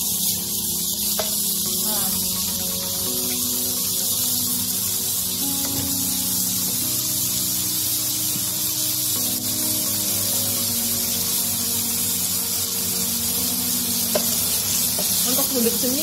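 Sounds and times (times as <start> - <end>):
food sizzling in a wok: 0.0 - 16.0
light background music: 0.0 - 16.0.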